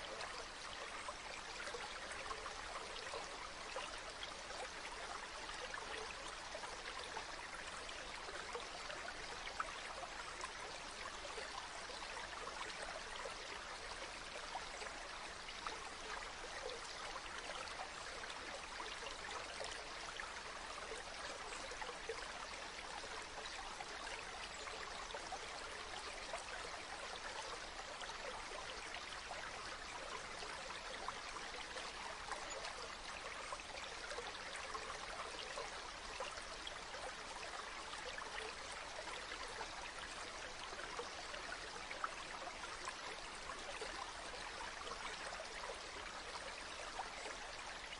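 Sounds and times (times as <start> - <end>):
stream of running water: 0.0 - 47.9.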